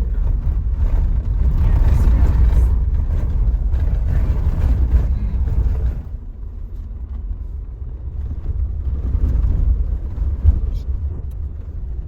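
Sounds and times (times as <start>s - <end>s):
car driving on dirt road: 0.0s - 12.0s.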